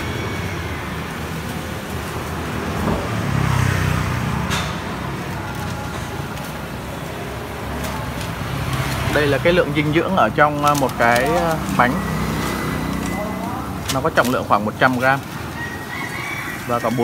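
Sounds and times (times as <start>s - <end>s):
street traffic rumble: 0.0s - 17.0s
vehicle passing: 0.0s - 17.0s.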